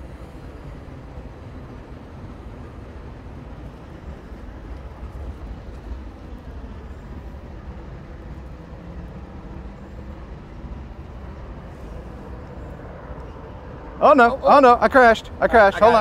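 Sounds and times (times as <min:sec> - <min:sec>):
diesel locomotives idling: 0:00.0 - 0:16.0.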